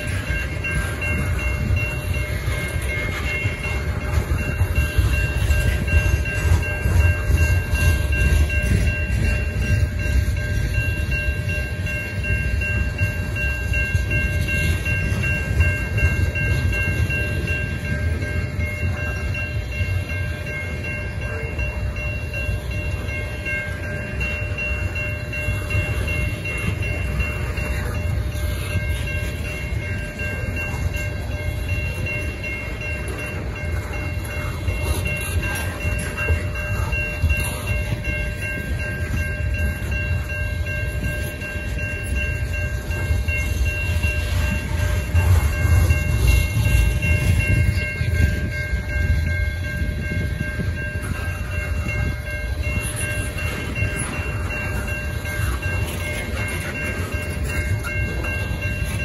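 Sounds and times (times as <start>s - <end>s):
crossing signal bell ringing: 0.0s - 59.0s
freight train wheels rumbling on rail: 0.0s - 59.0s.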